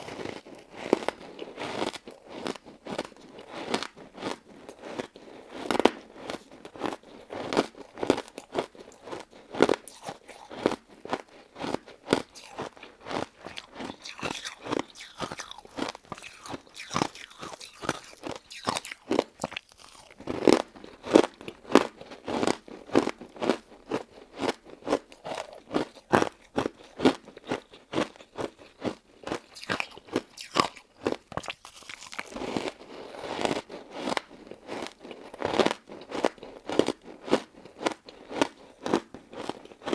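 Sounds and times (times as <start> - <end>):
crunchy biting and chewing: 0.0 - 39.9.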